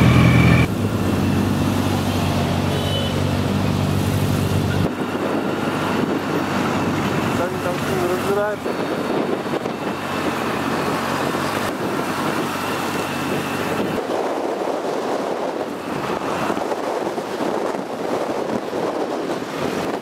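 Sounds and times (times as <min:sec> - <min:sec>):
low engine hum: 0:00.0 - 0:20.0
vehicle engine and road noise: 0:00.0 - 0:20.0
wind rushing over microphone: 0:00.0 - 0:20.0.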